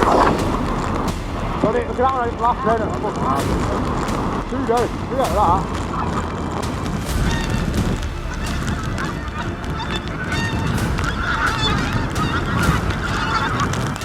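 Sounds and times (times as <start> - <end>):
geese honking: 0.0 - 14.0
wind buffeting microphone: 0.0 - 14.0.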